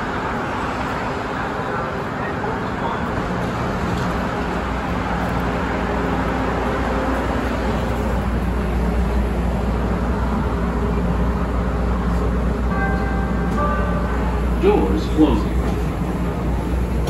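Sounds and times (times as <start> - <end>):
train car equipment hum and hiss: 0.0 - 17.0.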